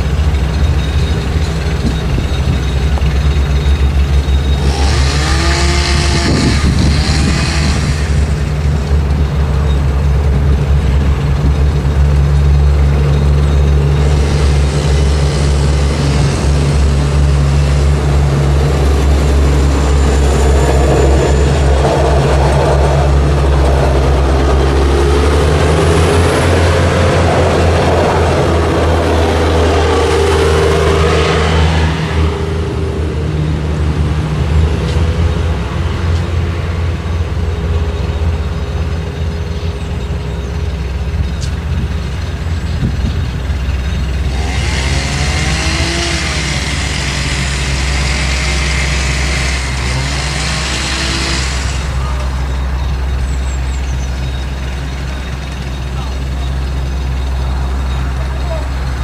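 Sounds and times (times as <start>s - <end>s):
diesel engine hum: 0.0s - 59.0s
train wheel and rail noise: 0.0s - 59.0s.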